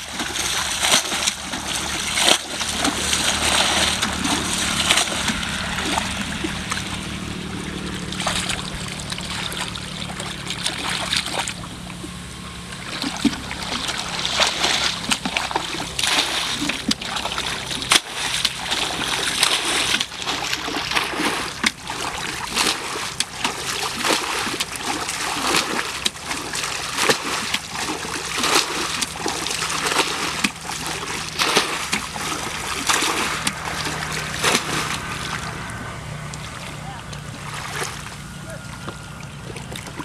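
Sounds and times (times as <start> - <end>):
muddy water splashing: 0.0 - 40.0.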